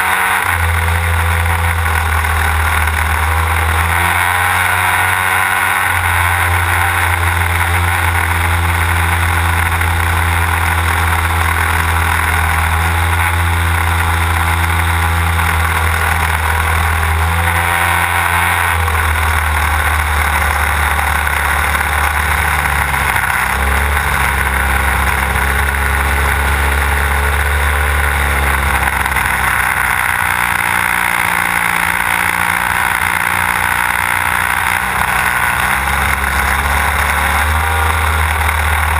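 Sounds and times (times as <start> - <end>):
model plane engine running: 0.0 - 38.9.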